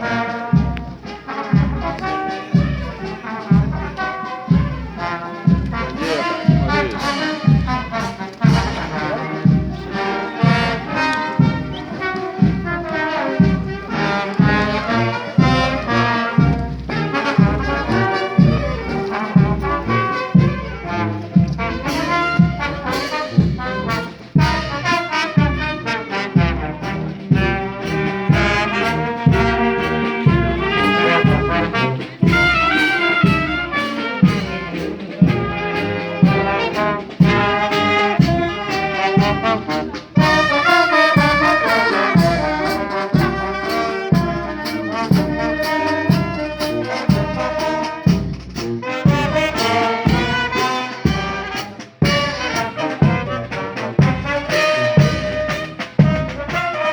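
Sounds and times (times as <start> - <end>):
bass drum beat: 0.0 - 56.8
brass band playing: 0.0 - 56.9.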